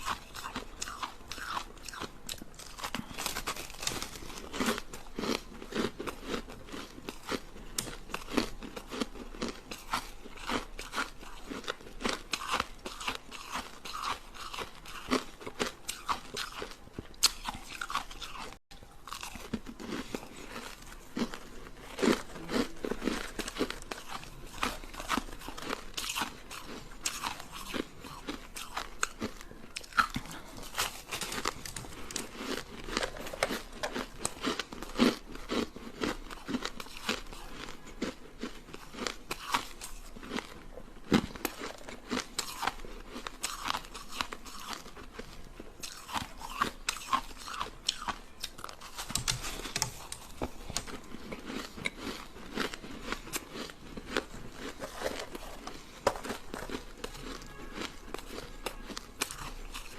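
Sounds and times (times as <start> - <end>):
ice being bitten and chewed: 0.0 - 59.9.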